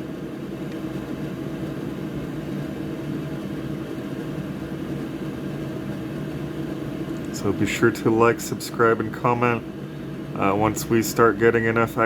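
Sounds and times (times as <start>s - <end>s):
electric fan whirring: 0.0s - 12.0s.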